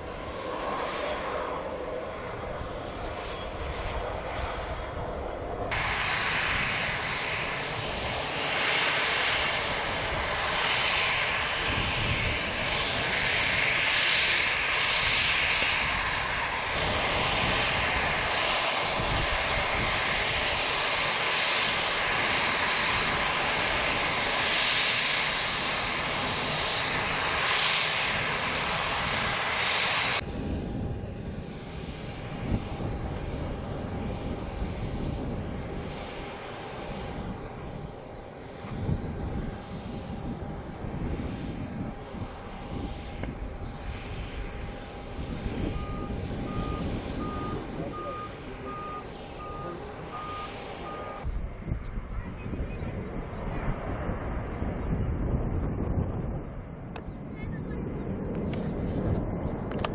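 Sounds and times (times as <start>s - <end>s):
airplane engines roaring: 0.0s - 59.9s.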